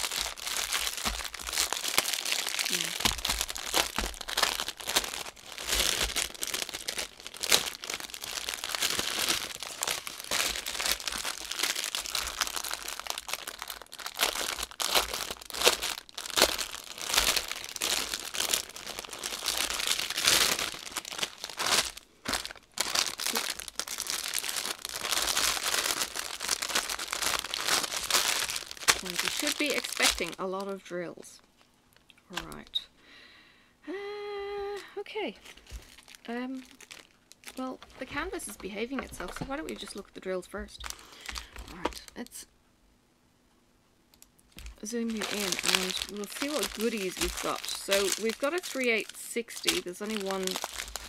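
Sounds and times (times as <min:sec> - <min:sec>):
cellophane and plastic bags crackling: 0:00.0 - 0:32.9, 0:34.7 - 0:42.5, 0:44.1 - 0:51.0.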